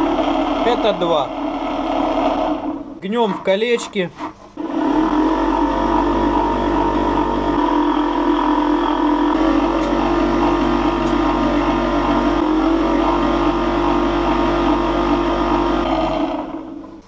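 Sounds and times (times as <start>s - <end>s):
bending machine humming: 0.0s - 17.0s.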